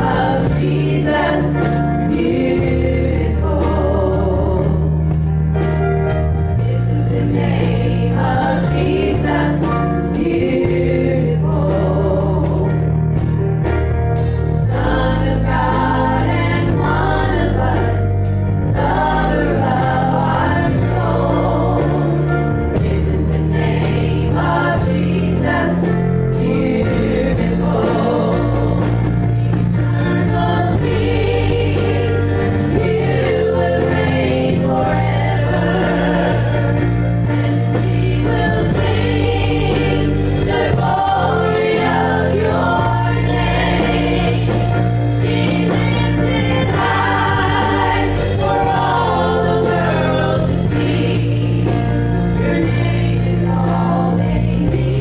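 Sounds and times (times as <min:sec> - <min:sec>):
group singing gospel song: 0:00.0 - 0:55.0
instrumental accompaniment with bass: 0:00.0 - 0:55.0.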